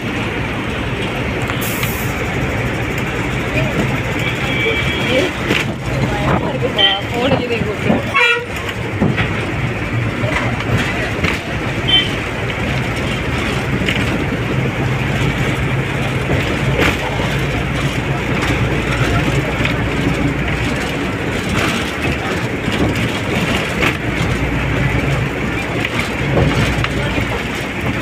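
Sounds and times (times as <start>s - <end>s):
moving vehicle running noise: 0.0s - 28.0s.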